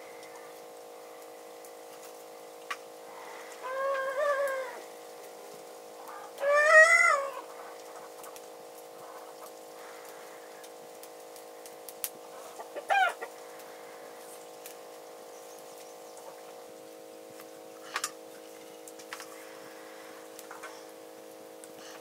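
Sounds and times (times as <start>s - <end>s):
steady hum of several tones: 0.0s - 22.0s.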